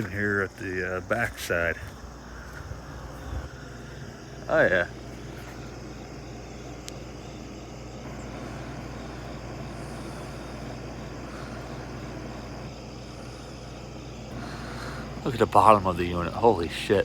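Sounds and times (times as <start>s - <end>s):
air conditioner compressor hum: 0.0s - 17.0s
air conditioner fan whoosh: 2.0s - 17.0s.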